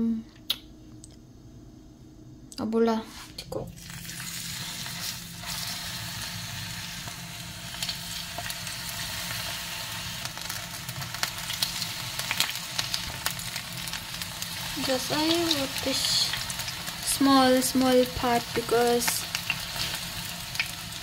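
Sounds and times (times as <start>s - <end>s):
chicken sizzling in hot oil: 3.7s - 21.0s.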